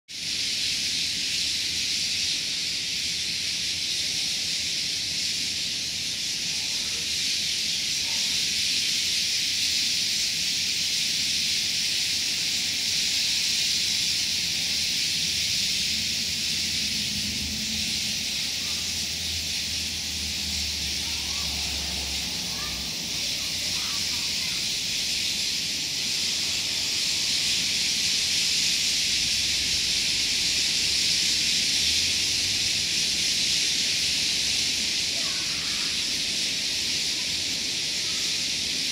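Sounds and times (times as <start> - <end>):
starlings chattering: 0.1 - 38.9.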